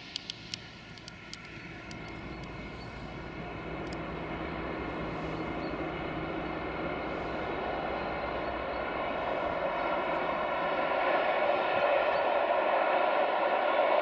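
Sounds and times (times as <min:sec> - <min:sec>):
diesel locomotive engine drone: 0:00.0 - 0:14.0
wheels rumbling on rail: 0:00.0 - 0:14.0.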